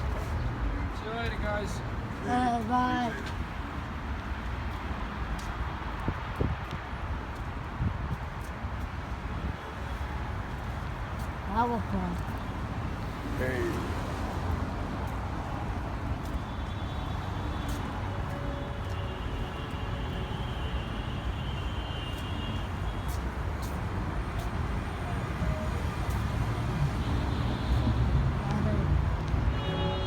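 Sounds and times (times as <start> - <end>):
low rumble of road traffic: 0.0 - 30.0.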